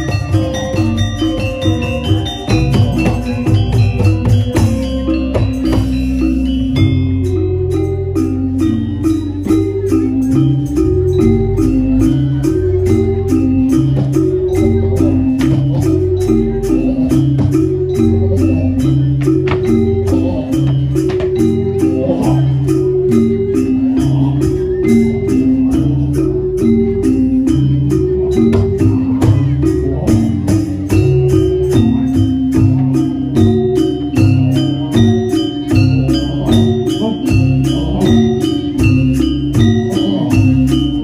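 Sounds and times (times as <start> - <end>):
high metallic ticking: 0.0 - 41.0
low drum beats: 0.0 - 41.0
metallophone melody: 0.0 - 41.0.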